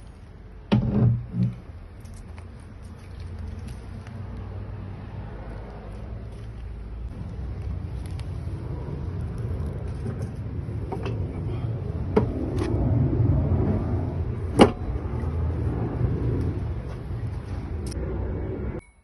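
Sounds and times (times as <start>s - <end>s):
engine running low rumble: 0.0s - 19.0s.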